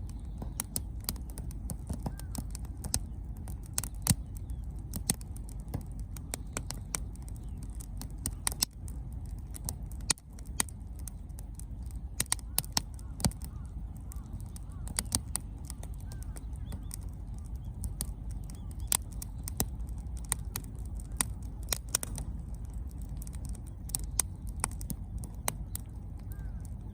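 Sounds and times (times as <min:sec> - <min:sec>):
burning wood crackling and popping: 0:00.0 - 0:26.9
steady low fire rumble: 0:00.0 - 0:26.9.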